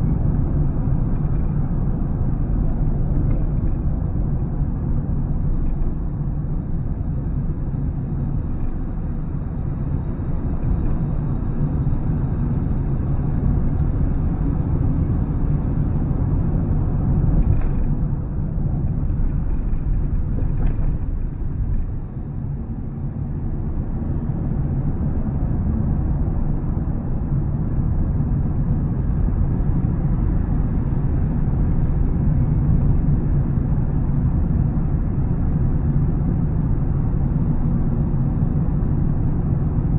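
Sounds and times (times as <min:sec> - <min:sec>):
low road rumble in car cabin: 0:00.0 - 0:39.9.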